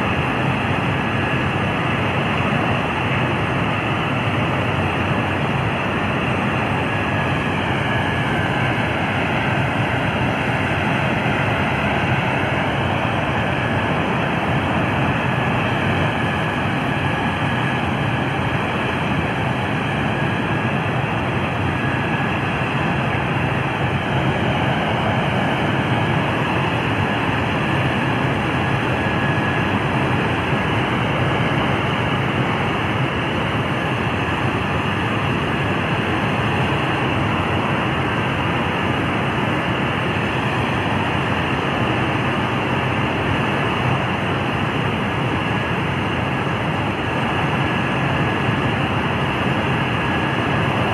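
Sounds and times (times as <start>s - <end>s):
faint high whine: 0.0s - 50.9s
loud aircraft engine noise: 0.0s - 50.9s.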